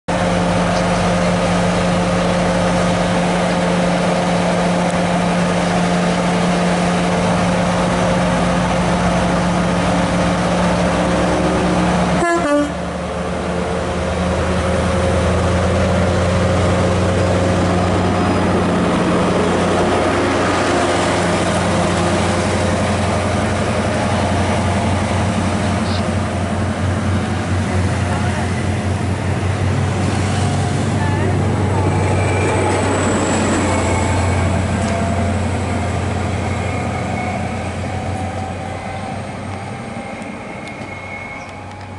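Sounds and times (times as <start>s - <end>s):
diesel train engine drone: 0.1s - 41.9s
wheel and rail noise: 0.1s - 41.9s.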